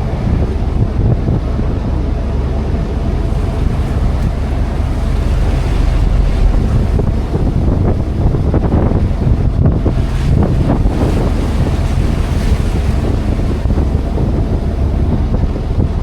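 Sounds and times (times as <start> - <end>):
water rushing past hull: 0.0 - 16.0
water splashing: 0.0 - 16.0
wind buffeting microphone: 0.0 - 16.0.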